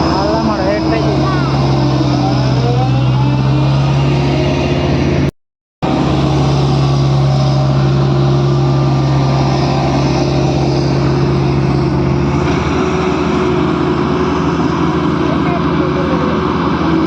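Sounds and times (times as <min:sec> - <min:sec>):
engine-like drone: 0:00.0 - 0:17.0.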